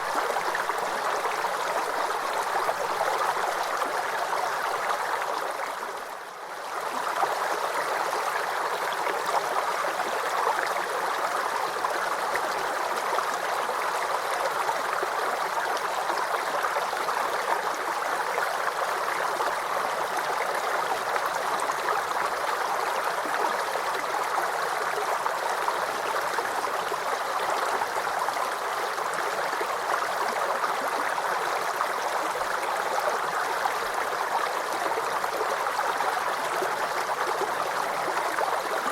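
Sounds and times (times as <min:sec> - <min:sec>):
brook water gurgling over stones: 0:00.0 - 0:38.9.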